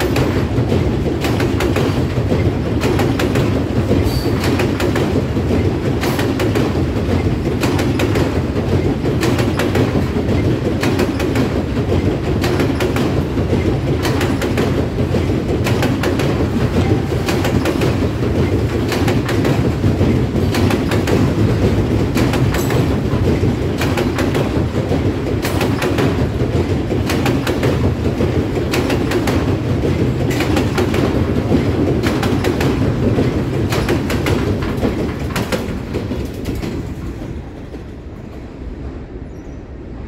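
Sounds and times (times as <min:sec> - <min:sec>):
wheels clicking over rail joints: 0:00.0 - 0:38.0
freight train rumbling over bridge: 0:00.0 - 0:40.0.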